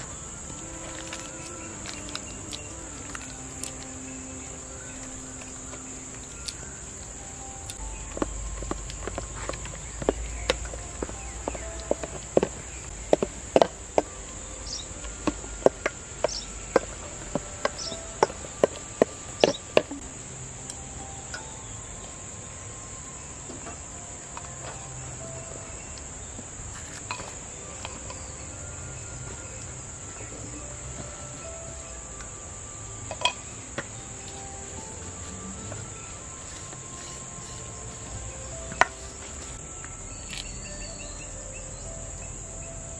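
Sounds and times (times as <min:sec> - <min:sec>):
high insect buzz: 0:00.0 - 0:42.9.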